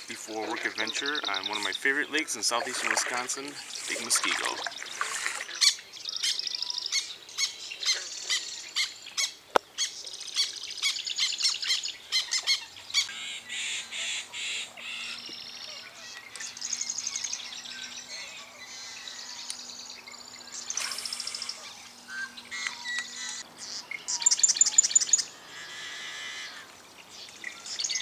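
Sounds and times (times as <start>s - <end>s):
blackbird squawking song: 0.0s - 28.0s
marsh birds calling: 0.0s - 28.0s.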